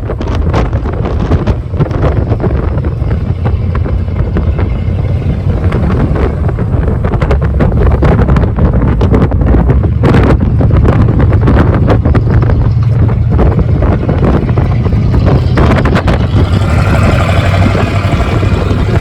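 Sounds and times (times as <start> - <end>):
truck engine rumbling: 0.0 - 19.0
wind buffeting microphone: 0.0 - 19.0.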